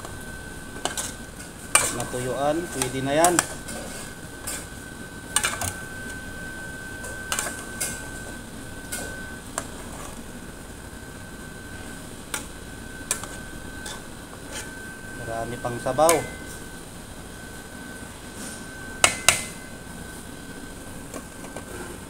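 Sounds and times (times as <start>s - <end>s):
thin high whine: 0.0s - 22.0s.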